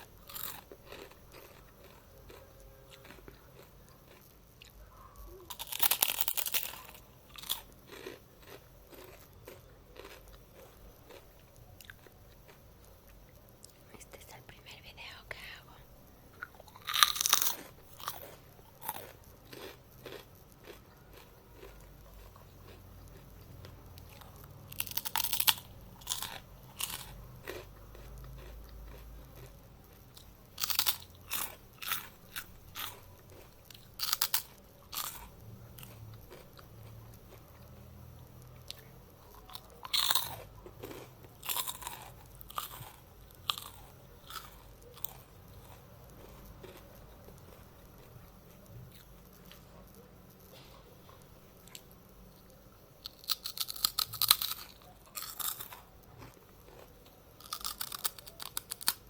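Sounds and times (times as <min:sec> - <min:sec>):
crunchy snack being eaten: 0:00.0 - 0:14.4, 0:16.3 - 0:59.0.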